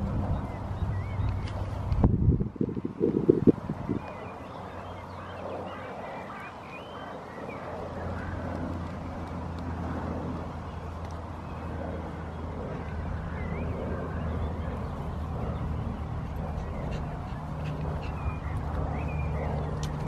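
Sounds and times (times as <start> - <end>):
small birds chirping: 0.0 - 2.1, 2.9 - 9.8, 10.4 - 20.0
wind buffeting microphone: 0.0 - 6.1, 7.1 - 20.0
distant traffic rumble: 0.0 - 20.0.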